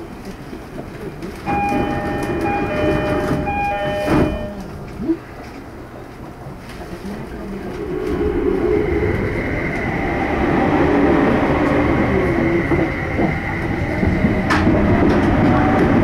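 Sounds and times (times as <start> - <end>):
electric train rumbling past: 1.4 - 16.0.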